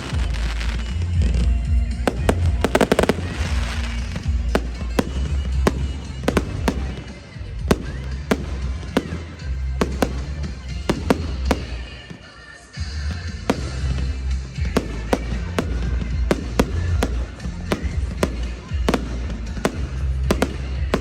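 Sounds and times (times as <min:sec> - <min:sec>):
music with heavy bass: 0:00.0 - 0:11.9, 0:12.8 - 0:21.0
firework crackling fizz: 0:00.0 - 0:21.0.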